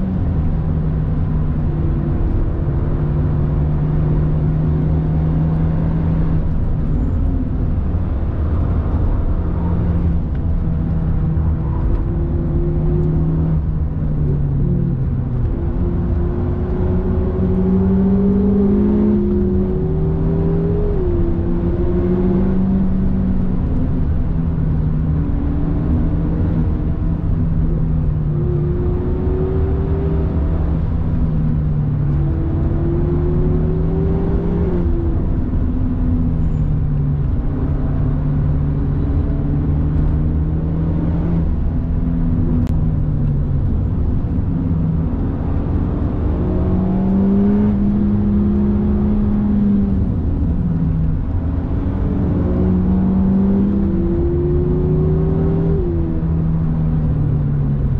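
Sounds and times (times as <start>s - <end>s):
car engine revving: 0.0s - 57.9s
tyre and road rumble: 0.0s - 57.9s.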